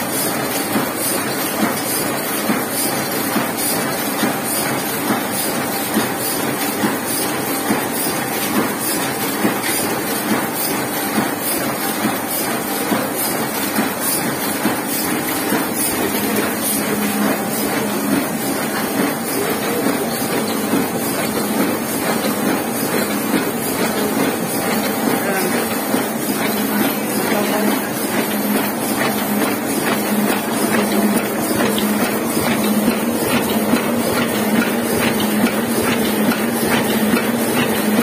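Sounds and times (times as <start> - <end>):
printing press clattering: 0.0 - 38.0.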